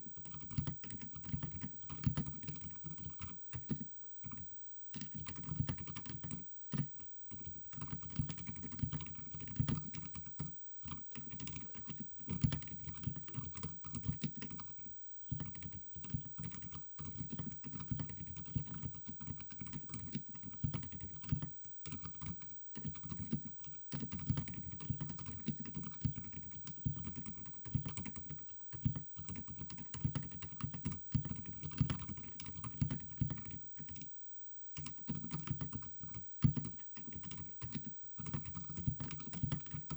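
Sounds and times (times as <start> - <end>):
mechanical keyboard typing: 0.1 - 34.1, 34.8 - 39.9.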